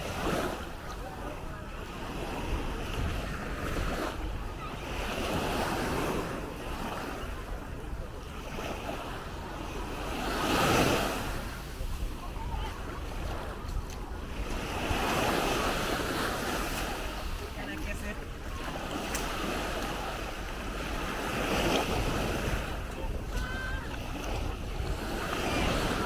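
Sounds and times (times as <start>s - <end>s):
small waves washing on sandy shore: 0.0s - 26.0s.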